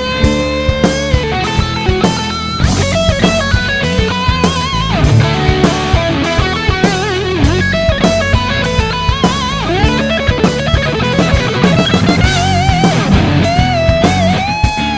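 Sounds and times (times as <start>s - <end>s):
electric guitar lead: 0.0s - 14.9s
steady drum beat: 0.0s - 14.9s.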